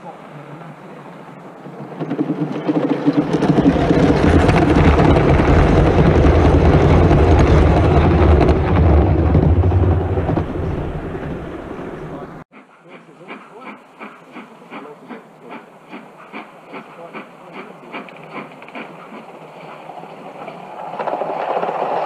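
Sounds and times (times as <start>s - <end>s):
model train wheels rumbling: 0.7s - 12.4s, 13.6s - 22.0s.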